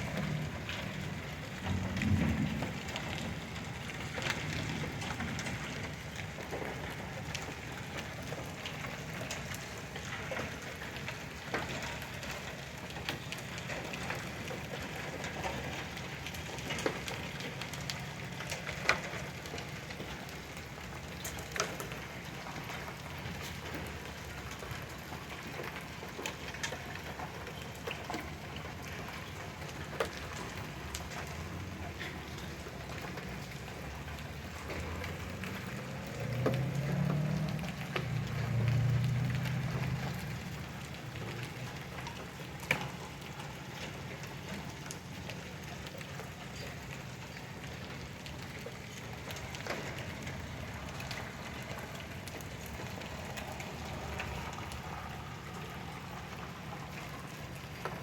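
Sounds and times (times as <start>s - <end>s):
hailstones knocking hard surfaces: 0.0s - 55.7s
rain and hail downpour: 0.0s - 58.0s.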